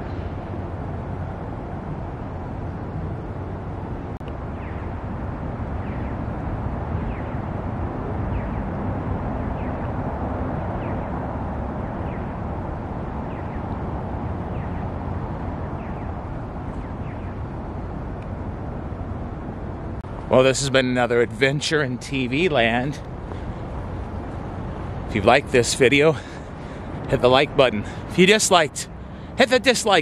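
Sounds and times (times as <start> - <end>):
low rumble of city noise: 0.0 - 30.0.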